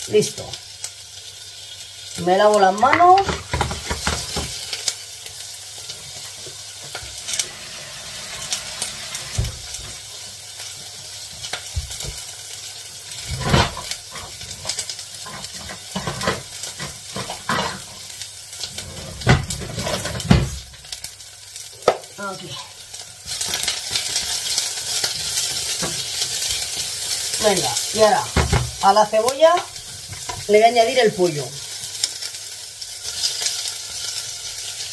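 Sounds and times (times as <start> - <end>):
onion sizzling in hot oil: 0.0 - 34.9.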